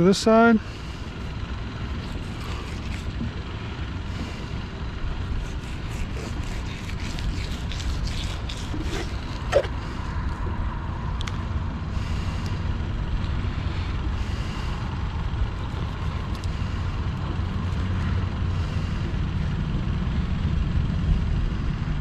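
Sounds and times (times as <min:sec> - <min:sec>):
low rumble: 0:00.7 - 0:22.0.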